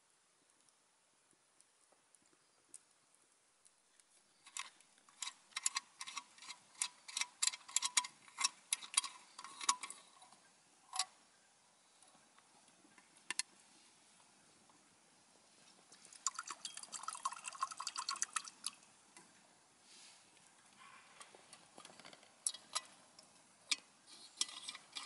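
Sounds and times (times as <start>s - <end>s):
wood fire crackling in stove: 0.0s - 25.0s.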